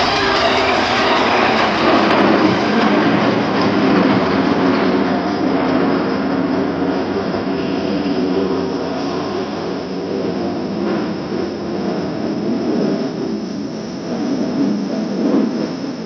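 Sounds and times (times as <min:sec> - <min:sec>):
jet engines roaring past: 0:00.0 - 0:16.0.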